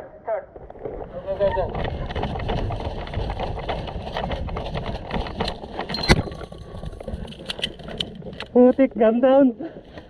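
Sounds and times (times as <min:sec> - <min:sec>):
wind buffeting microphone: 0:01.0 - 0:10.0.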